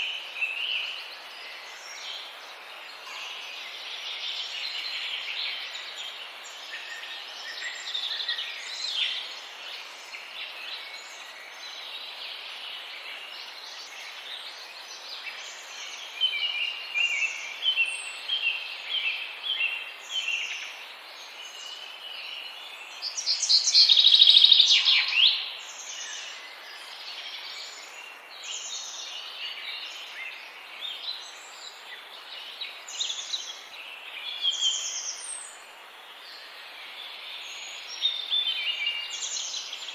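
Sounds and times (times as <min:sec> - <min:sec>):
songbirds chirping and calling: 0:00.0 - 0:39.9
steady background hiss: 0:00.0 - 0:39.9.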